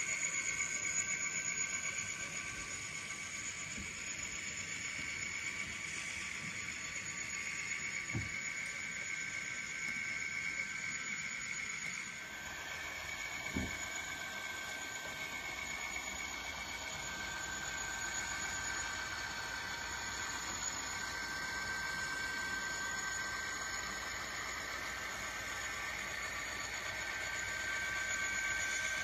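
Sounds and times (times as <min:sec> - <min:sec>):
model train whine and hum: 0:00.0 - 0:29.0.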